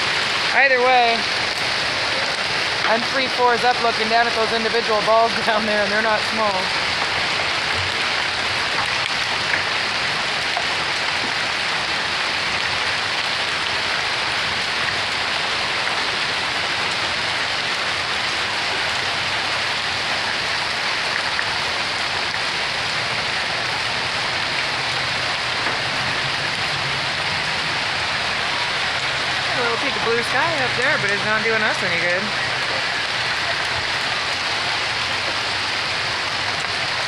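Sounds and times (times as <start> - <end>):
hail clattering: 0.0 - 37.0
rain: 0.0 - 37.0.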